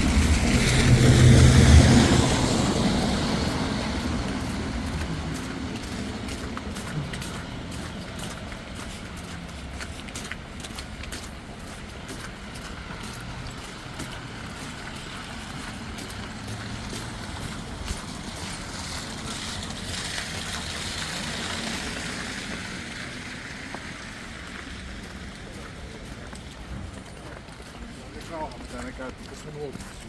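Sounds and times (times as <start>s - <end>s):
tyres hissing through slush: 0.0s - 29.8s
wet city street noise: 0.0s - 30.0s.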